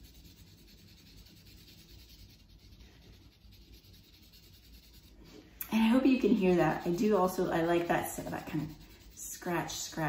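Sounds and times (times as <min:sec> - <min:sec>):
pencil scratching on paper: 0:00.0 - 0:10.0.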